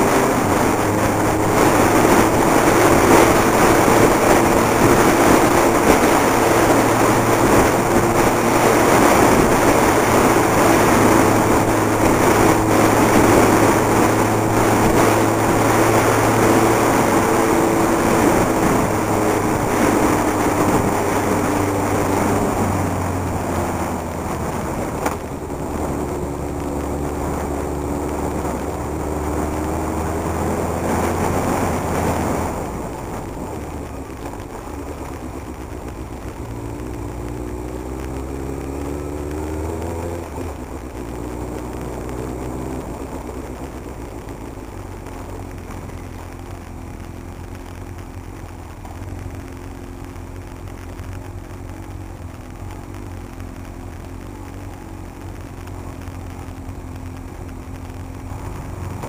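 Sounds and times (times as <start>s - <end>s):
motorcycle engine running: 0.0s - 59.0s
wind and road rush: 0.0s - 59.0s.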